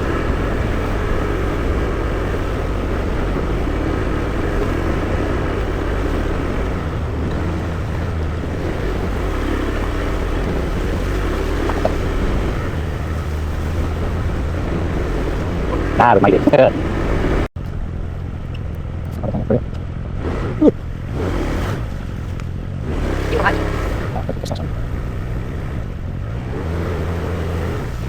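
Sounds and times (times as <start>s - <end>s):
motor scooter engine running: 0.0s - 28.0s
road noise: 0.0s - 28.0s.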